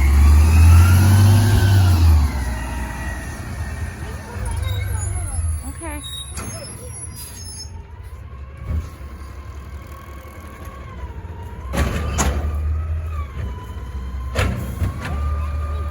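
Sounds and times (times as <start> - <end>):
garbage truck engine rumbling: 0.0 - 15.9.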